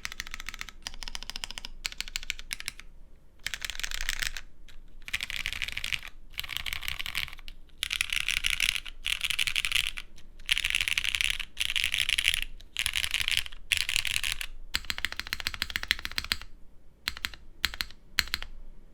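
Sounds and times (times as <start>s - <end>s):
mechanical keyboard typing: 0.0s - 16.5s, 17.1s - 18.5s.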